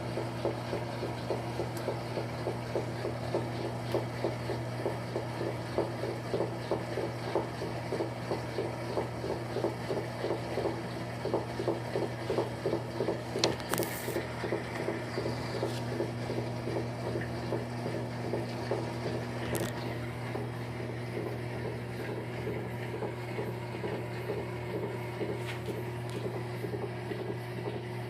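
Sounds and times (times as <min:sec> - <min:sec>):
agitator churning water: 0:00.0 - 0:28.0
washing machine motor hum: 0:00.0 - 0:28.0.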